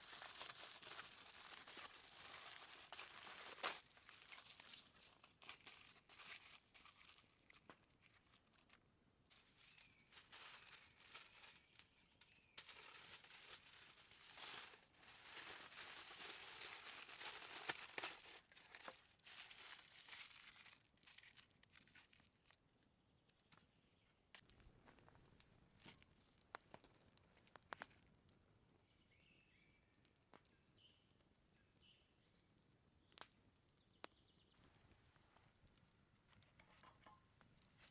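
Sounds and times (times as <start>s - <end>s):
rustling and crinkling: 0.0s - 23.7s, 24.4s - 28.4s, 34.5s - 37.9s.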